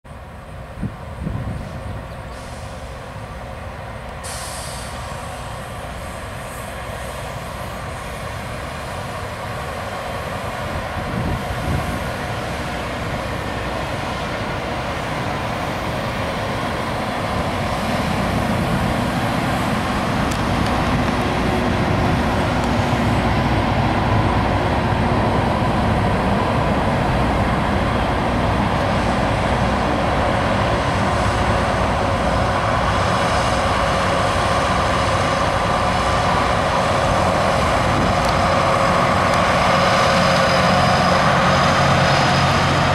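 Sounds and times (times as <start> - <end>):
rail grinder train passing: 0.1 - 42.9.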